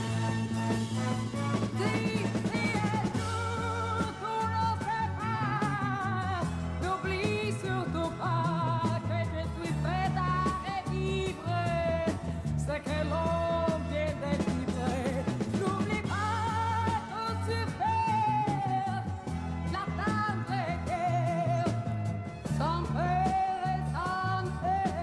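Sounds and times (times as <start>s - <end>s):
band accompaniment with bass: 0.0s - 25.0s
woman singing pop ballad: 1.6s - 25.0s.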